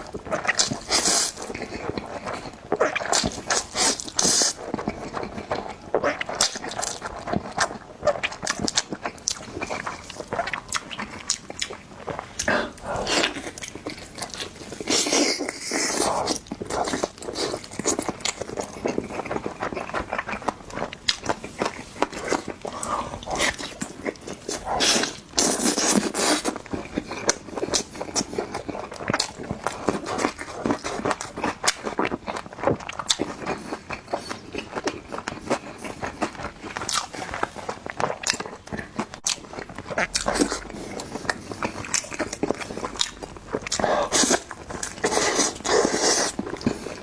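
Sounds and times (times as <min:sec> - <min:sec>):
biting and chewing food: 0:00.0 - 0:47.0.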